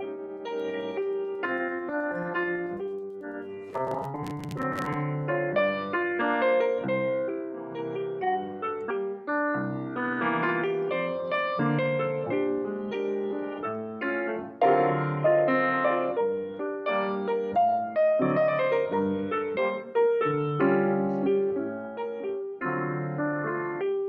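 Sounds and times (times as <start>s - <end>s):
piano chords: 0.0s - 24.0s.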